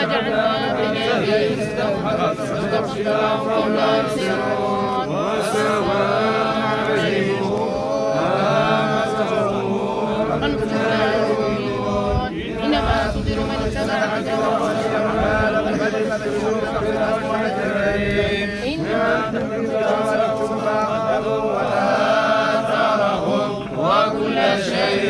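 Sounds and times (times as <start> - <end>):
men chanting in unison: 0.0 - 25.0.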